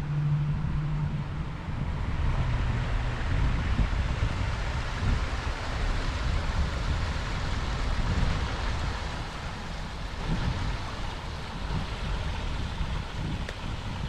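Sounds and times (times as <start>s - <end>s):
wind buffeting microphone: 0.0s - 14.0s
creek water rushing: 2.0s - 14.0s.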